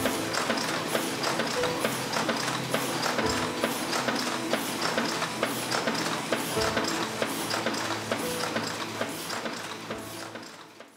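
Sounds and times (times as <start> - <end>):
screws rattling through sorting machine: 0.0 - 10.8.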